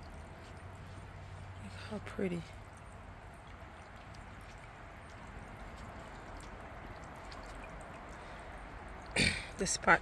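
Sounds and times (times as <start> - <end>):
fountain water trickling and dripping: 0.0 - 10.0.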